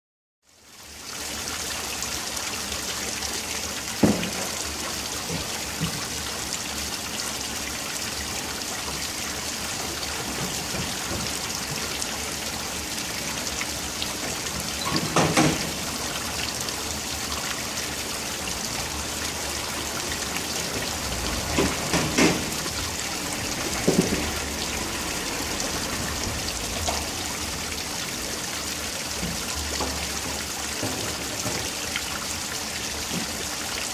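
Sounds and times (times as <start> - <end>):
fountain splashing: 0.6 - 33.9.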